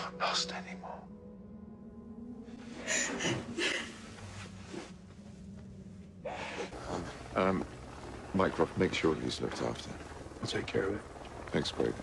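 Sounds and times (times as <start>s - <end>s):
low steady drone: 0.0s - 12.0s.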